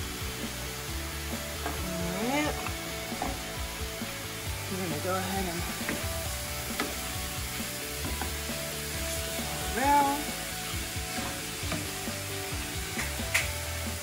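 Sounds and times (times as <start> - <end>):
food sizzling in skillets: 0.0 - 14.0.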